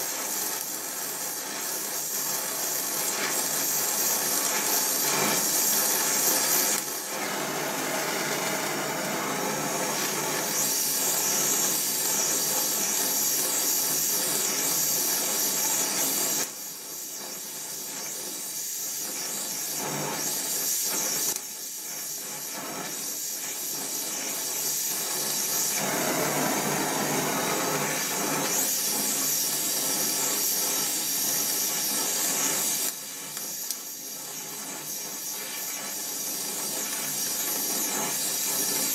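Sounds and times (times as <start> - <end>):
welding torch flame hissing: 0.0 - 38.9.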